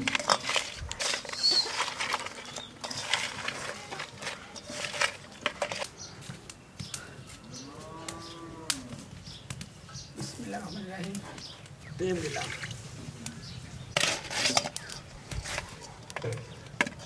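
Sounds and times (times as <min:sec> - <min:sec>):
wet squelches of fish mixing: 0:00.0 - 0:06.8, 0:10.2 - 0:17.0.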